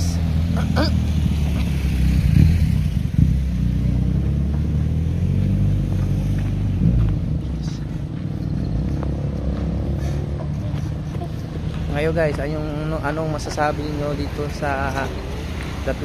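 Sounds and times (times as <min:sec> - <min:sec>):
motorcycles passing: 0:00.0 - 0:16.0.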